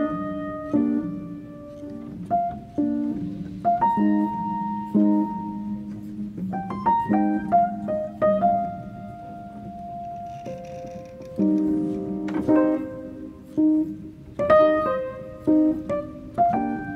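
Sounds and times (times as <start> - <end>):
piano notes and chords: 0.0 - 16.9.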